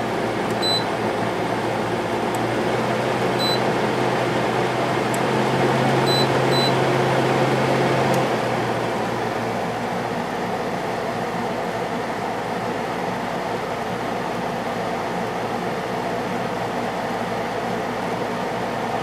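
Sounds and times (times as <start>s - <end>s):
air conditioner fan and hum: 0.0s - 19.0s.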